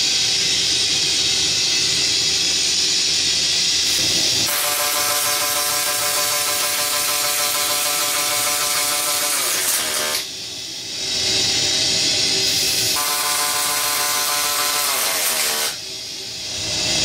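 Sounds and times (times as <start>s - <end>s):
welding arc hiss: 0.0s - 17.0s.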